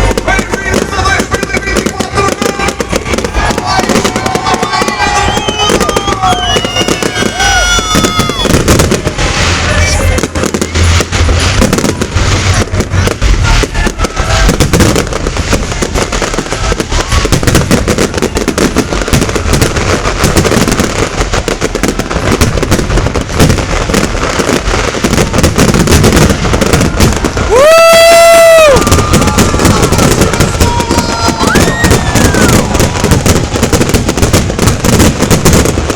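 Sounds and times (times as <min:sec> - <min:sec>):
firework whistle: 0:00.0 - 0:35.9
fireworks crackling and popping: 0:00.0 - 0:35.9.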